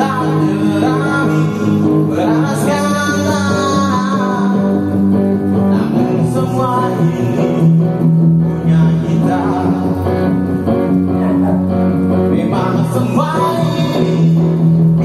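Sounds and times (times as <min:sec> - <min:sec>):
man singing into microphone: 0:00.0 - 0:05.0, 0:05.6 - 0:15.0
guitar accompaniment: 0:00.0 - 0:15.0.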